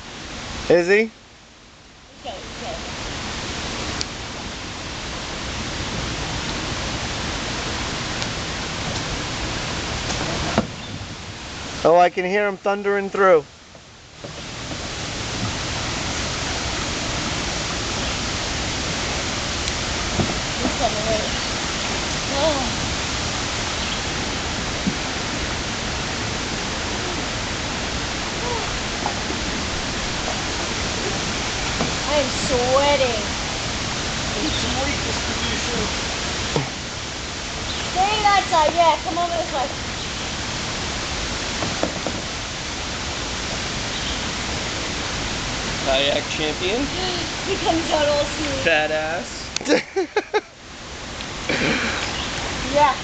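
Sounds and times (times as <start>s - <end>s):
river water running over rocks: 0.0s - 53.0s.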